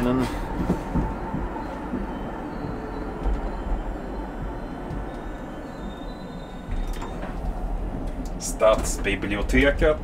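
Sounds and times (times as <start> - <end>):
tram rumbling on rails: 0.0 - 10.0.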